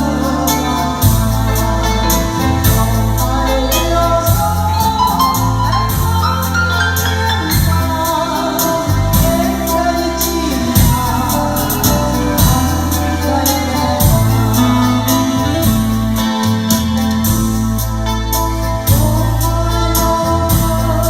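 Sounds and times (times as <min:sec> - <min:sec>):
keyboard bass line: 0:00.0 - 0:21.0
keyboard melody: 0:00.0 - 0:21.0
steady drum beat: 0:00.0 - 0:21.0.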